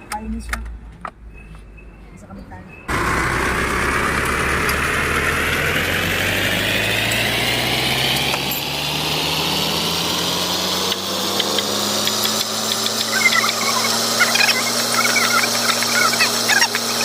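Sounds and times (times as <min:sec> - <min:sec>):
vehicle engine speeding up: 0:02.9 - 0:17.0.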